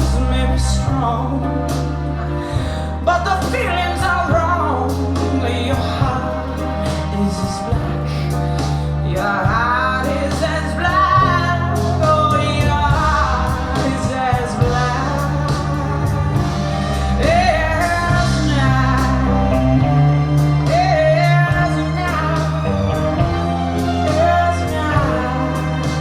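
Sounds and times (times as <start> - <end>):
slow blues music over loudspeakers: 0.0 - 26.0.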